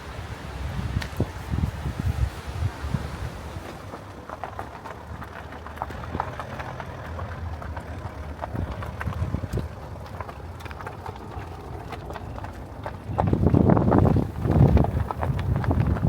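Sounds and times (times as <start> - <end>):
horse hooves clopping: 0.0 - 16.0
wind rumble on microphone: 0.0 - 16.0.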